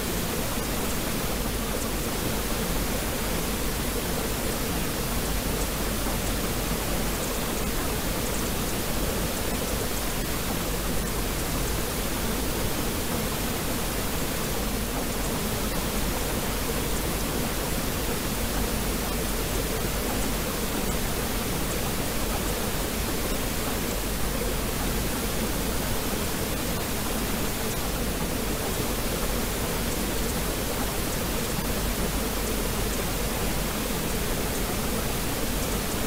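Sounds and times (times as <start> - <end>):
steady pink noise hiss: 0.0 - 36.0.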